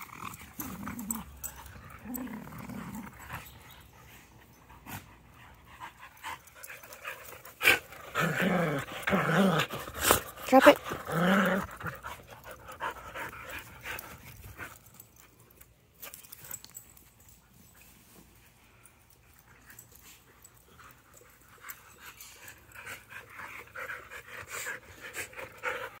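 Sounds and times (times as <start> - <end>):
dogs panting: 0.3 - 26.0.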